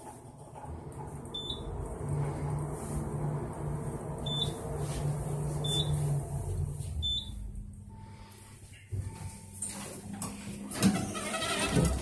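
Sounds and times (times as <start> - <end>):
elevator hum and rumble: 0.0 - 12.0.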